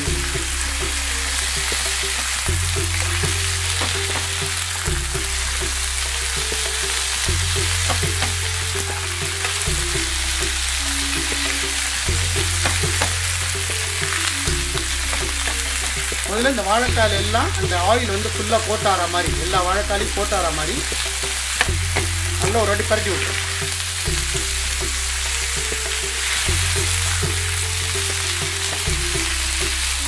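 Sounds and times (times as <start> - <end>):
banana slices sizzling in oil: 0.0 - 30.0.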